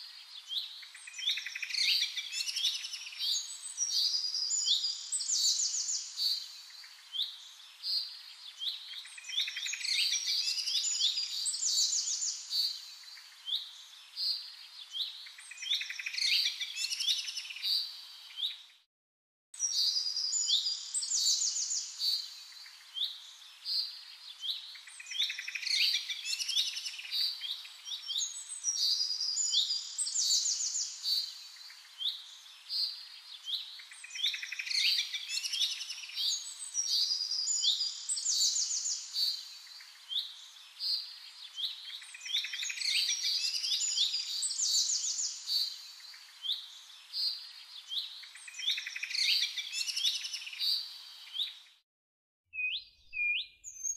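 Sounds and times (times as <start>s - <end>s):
birdsong with trills and whistles: 0.0s - 18.8s, 19.6s - 51.8s, 52.5s - 53.9s.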